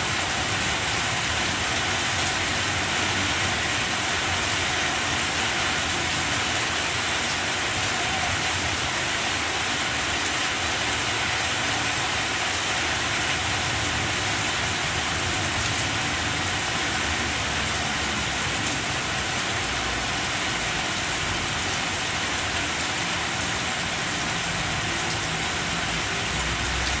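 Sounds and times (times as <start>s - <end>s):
heavy rain on leaves: 0.0s - 27.0s.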